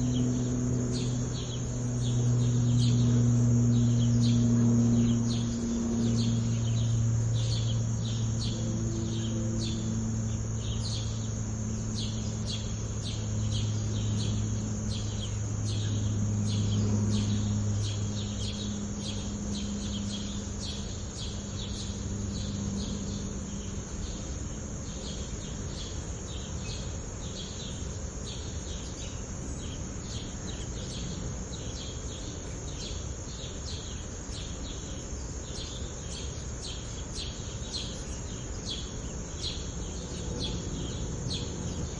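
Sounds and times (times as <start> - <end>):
plane droning overhead: 0.0 - 41.9
sparrows chirping: 0.0 - 41.9.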